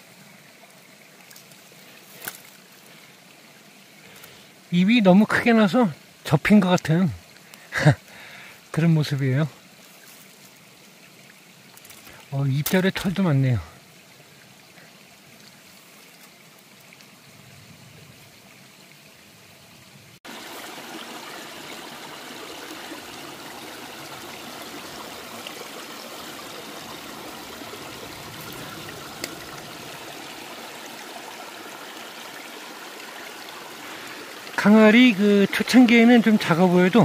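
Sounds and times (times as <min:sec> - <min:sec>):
faint background hiss: 0:00.0 - 0:37.0
stream running over stones: 0:00.0 - 0:37.0.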